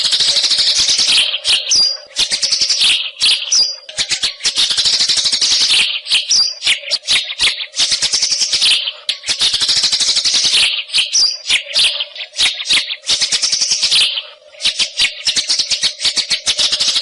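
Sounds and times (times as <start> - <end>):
bird singing chirps and trills: 0.0 - 17.0.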